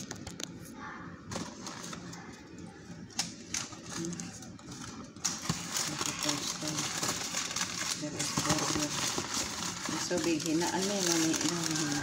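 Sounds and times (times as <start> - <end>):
cardboard and paper rustling: 1.3 - 2.4, 3.2 - 12.0.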